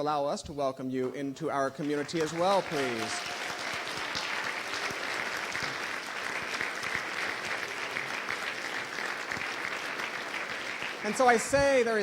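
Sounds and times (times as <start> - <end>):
crowd clapping: 1.0 - 12.0.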